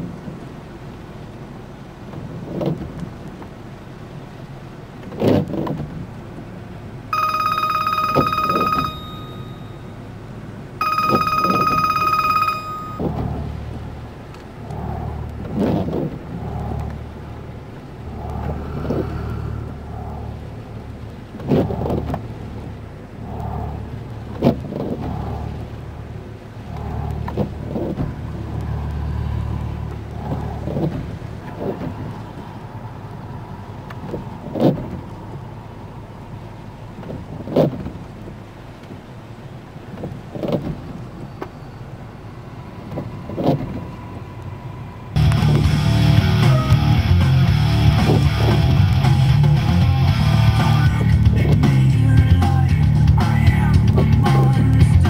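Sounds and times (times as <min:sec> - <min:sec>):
low uneven rumble: 0:00.0 - 0:55.0.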